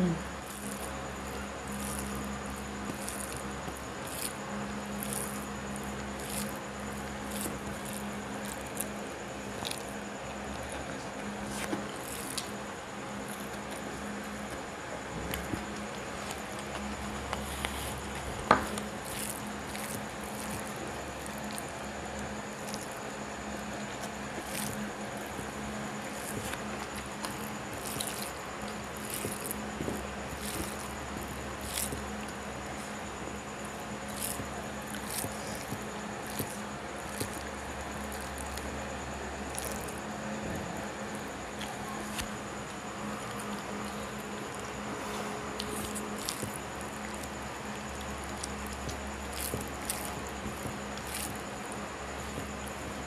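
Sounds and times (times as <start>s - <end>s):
steady background hum: 0.0s - 53.0s
fingers squishing food: 0.1s - 53.0s.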